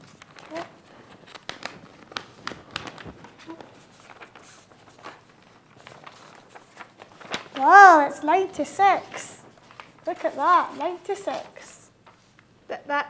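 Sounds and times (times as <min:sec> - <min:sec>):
paper rustling and clicking: 0:00.0 - 0:12.5.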